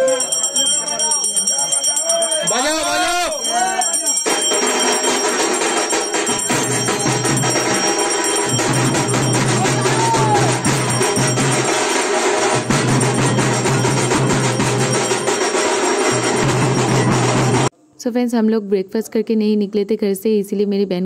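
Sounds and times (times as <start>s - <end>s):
music with percussion beat: 0.0s - 17.7s.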